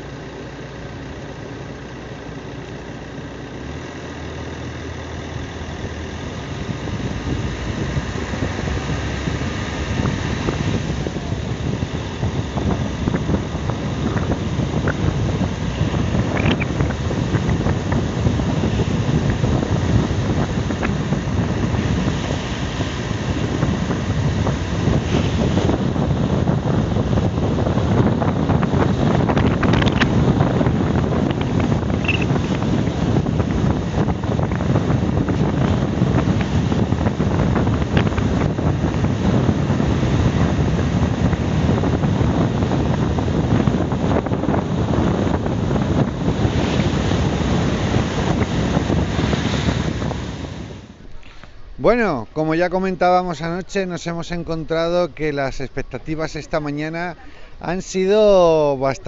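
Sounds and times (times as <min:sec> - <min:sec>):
car road noise on wet streets: 0:00.0 - 0:51.4
wind buffeting microphone: 0:04.8 - 0:59.0.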